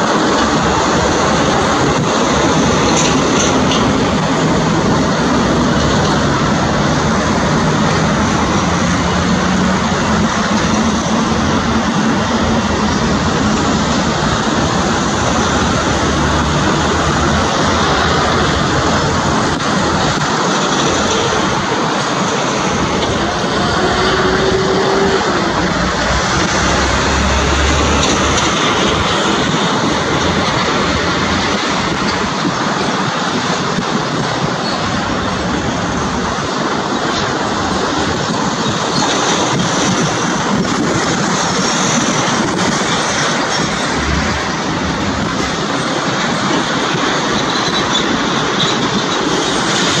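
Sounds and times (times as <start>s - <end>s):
jet engines roaring at takeoff: 0.0s - 50.0s.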